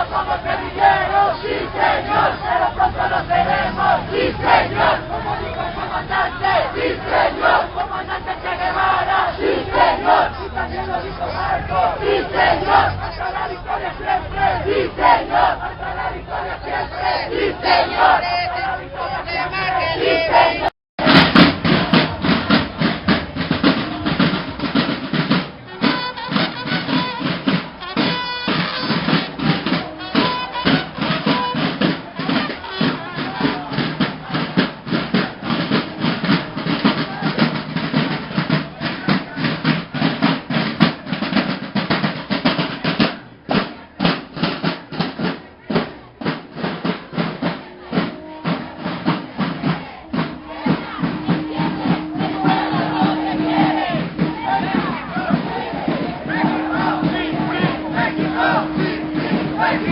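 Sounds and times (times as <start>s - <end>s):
marching drums beating: 0.0s - 59.9s.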